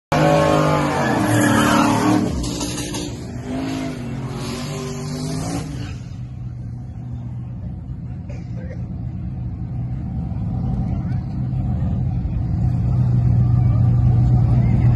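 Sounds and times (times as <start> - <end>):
truck engine at full throttle: 0.1 - 14.9.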